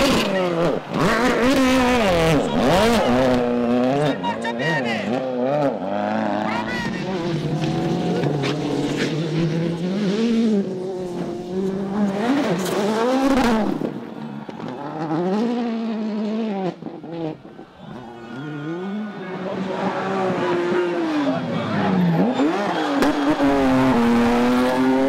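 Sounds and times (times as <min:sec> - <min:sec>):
car engine revving hard: 0:00.0 - 0:14.0, 0:18.4 - 0:25.0.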